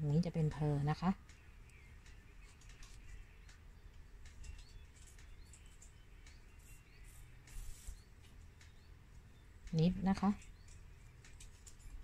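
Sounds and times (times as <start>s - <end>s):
faint bird chirps: 0.0s - 12.0s
knitting needles clicking: 1.0s - 12.0s.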